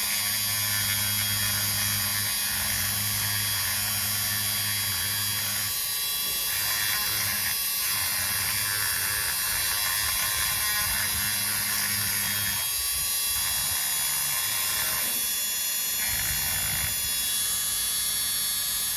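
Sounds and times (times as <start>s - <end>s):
handheld electric tool buzzing: 0.0s - 18.9s.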